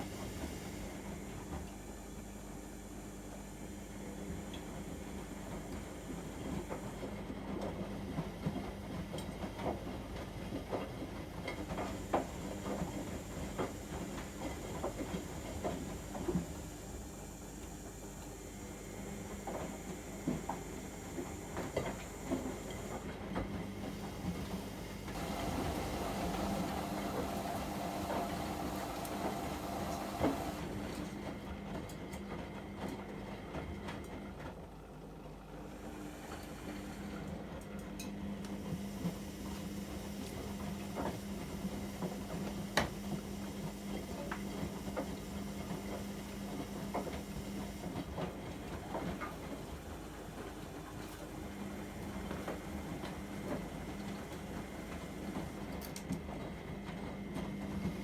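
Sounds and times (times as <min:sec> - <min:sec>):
washing machine motor hum: 0:00.0 - 0:58.0.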